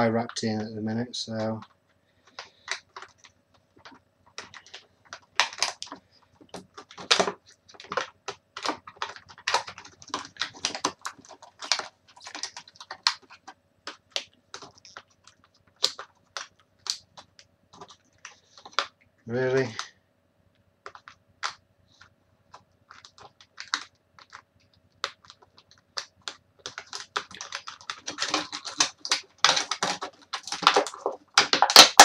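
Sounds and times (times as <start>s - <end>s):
packaging clicks and crinkles: 1.3s - 19.9s, 20.8s - 32.0s.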